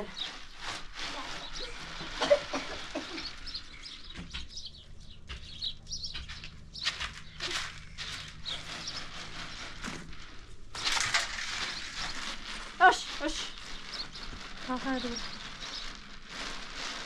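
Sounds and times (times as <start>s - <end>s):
rustling and handling noises: 0.0s - 17.0s
small birds chirping: 0.0s - 17.0s.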